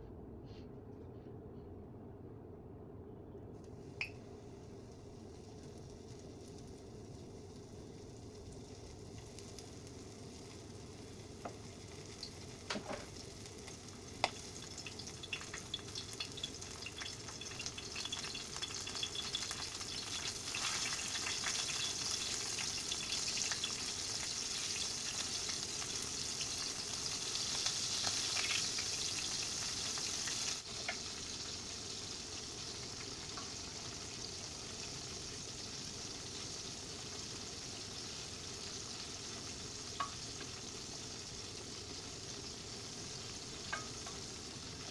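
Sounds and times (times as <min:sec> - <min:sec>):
food sizzling in hot oil: 0:04.0 - 0:44.9.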